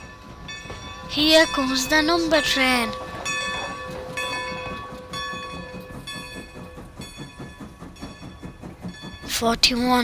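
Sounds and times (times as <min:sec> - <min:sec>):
cartoon train wheels clacking: 0:00.0 - 0:10.0.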